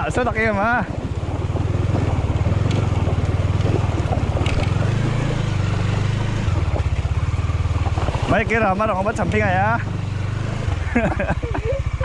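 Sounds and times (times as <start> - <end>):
motorcycle engine puttering: 0.0 - 12.0.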